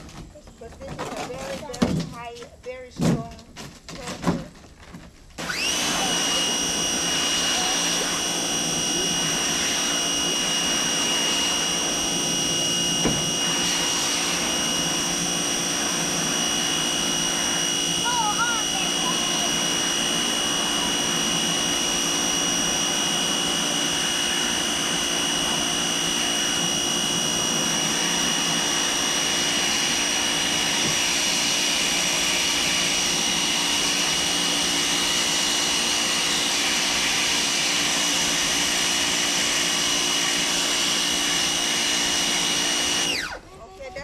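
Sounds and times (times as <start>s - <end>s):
pressure washer spraying: 5.4s - 43.4s
machine high whine: 5.4s - 43.5s.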